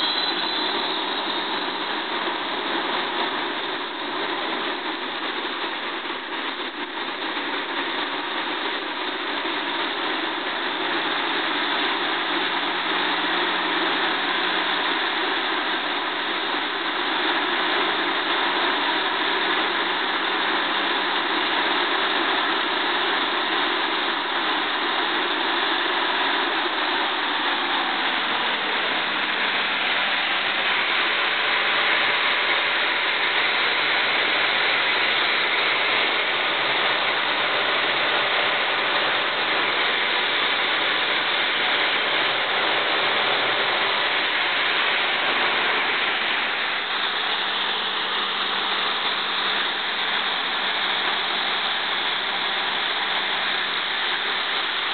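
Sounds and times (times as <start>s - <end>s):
gas turbine running: 0.0s - 54.9s.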